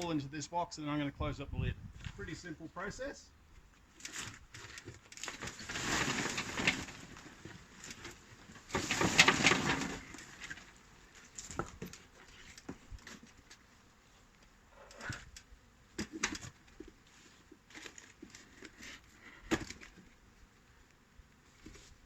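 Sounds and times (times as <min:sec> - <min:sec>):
bees rustling and pattering: 0:01.9 - 0:22.0.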